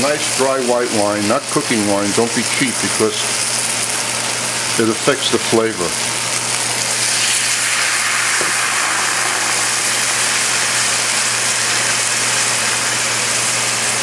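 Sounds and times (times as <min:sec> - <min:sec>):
wine sizzling in hot pan: 0:00.0 - 0:14.0.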